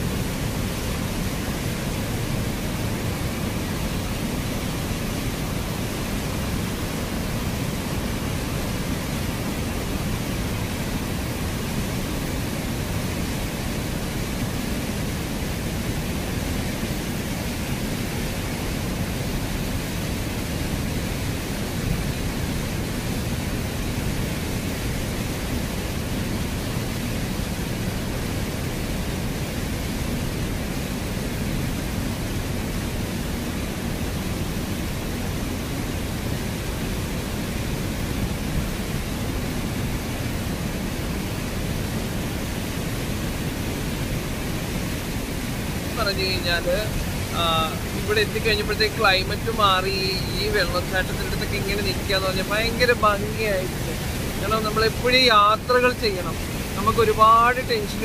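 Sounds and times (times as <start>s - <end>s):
floodwater rushing over weir: 0.0s - 58.0s.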